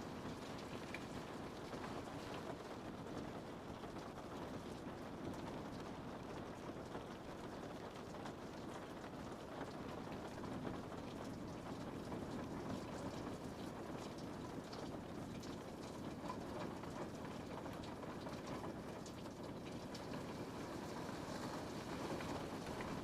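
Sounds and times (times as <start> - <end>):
rain on a window: 0.0 - 23.0.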